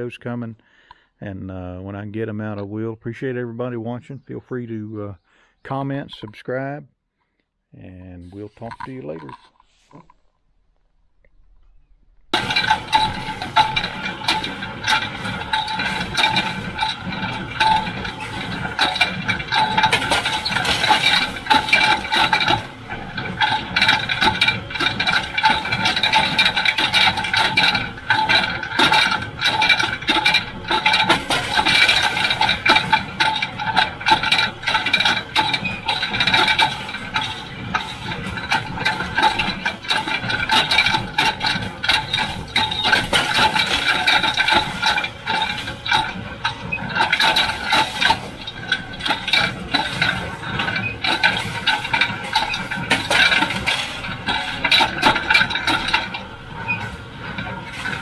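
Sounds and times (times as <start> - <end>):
baler clattering: 8.2 - 58.0.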